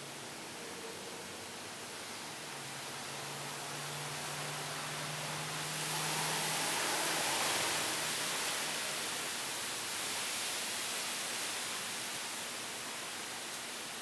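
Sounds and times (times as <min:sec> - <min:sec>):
heavy downpour with wind: 0:00.0 - 0:14.0.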